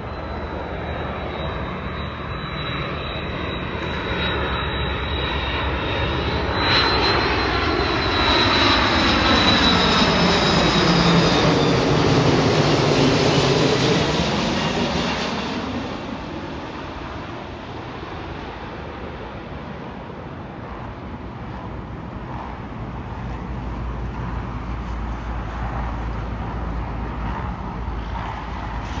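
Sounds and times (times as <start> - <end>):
jet airliner engine noise: 0.0 - 29.0
steady outdoor rumble: 0.0 - 29.0.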